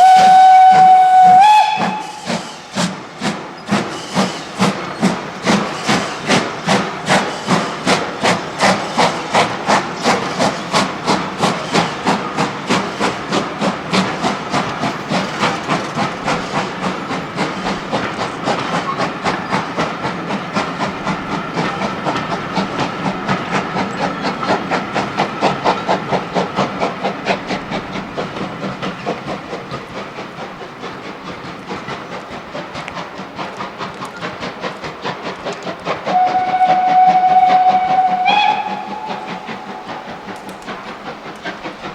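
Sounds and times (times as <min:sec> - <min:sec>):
steam hissing: 0:00.0 - 0:41.9
steam locomotive exhaust beats: 0:00.0 - 0:41.9.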